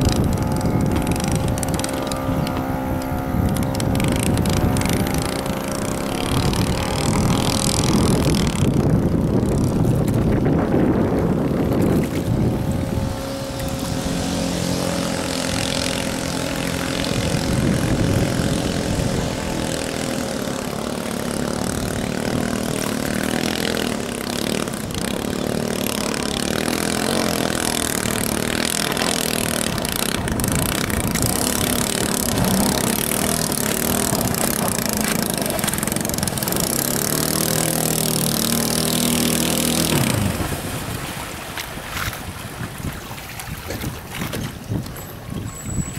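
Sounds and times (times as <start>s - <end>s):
boat engine running: 0.0s - 45.9s
water rushing around hull: 0.0s - 45.9s.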